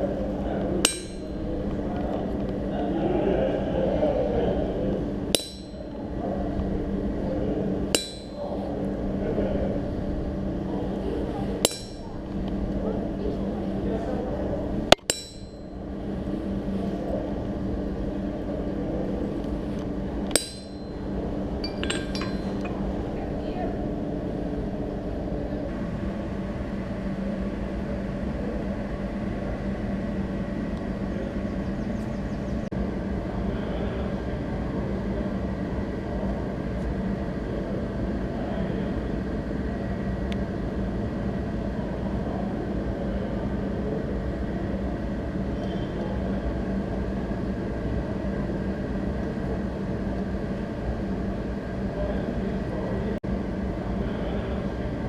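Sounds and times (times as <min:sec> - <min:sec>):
machinery rumble and hum: 0:00.0 - 0:55.0.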